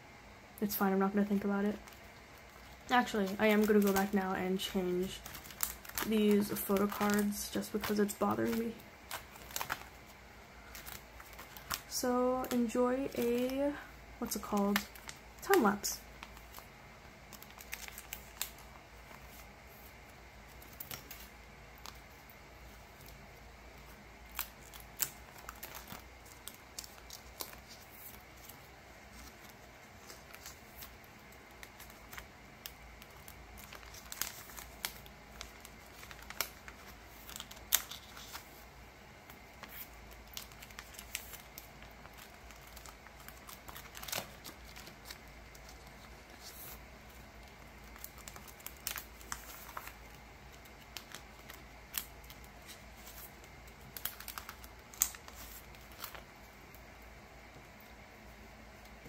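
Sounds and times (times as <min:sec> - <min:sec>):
plastic sleeves crinkling: 0:00.6 - 0:57.8.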